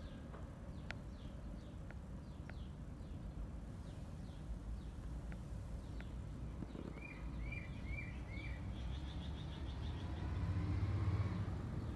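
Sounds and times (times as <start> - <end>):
small bird singing: 0.0 - 10.6.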